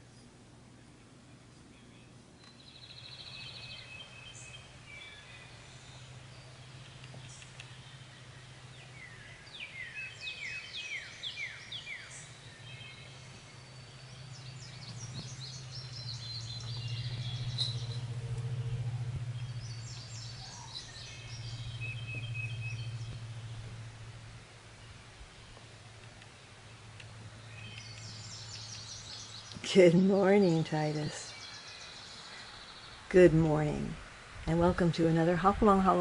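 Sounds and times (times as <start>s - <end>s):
songbirds singing: 0.0s - 36.0s
steady low hum: 0.0s - 36.0s.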